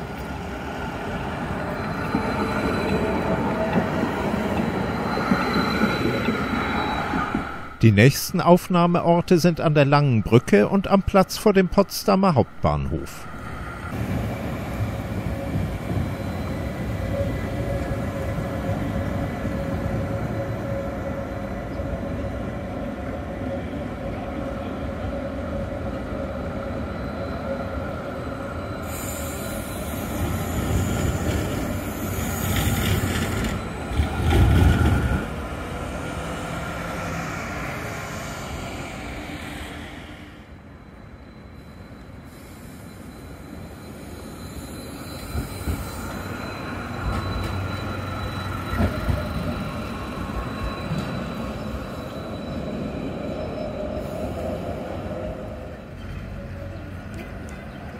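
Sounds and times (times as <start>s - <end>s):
tram rolling on track: 0.0s - 9.7s, 12.4s - 57.9s.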